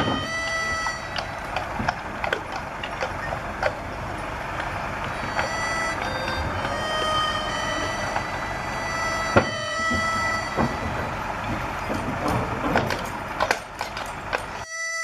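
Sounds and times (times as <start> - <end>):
hooves on wooden ramp: 0.0 - 14.7
vehicle rumble: 0.0 - 14.7.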